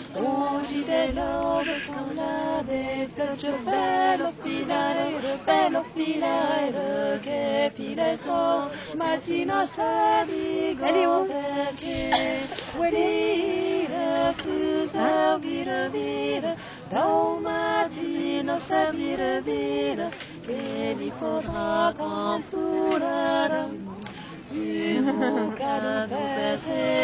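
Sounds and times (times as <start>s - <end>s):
women singing held notes: 0.0s - 27.0s.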